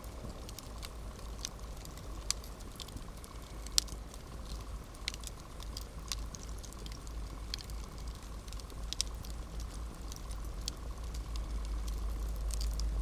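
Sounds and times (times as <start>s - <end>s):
campfire rumble: 0.0s - 13.0s
fire pops and snaps: 0.0s - 13.0s.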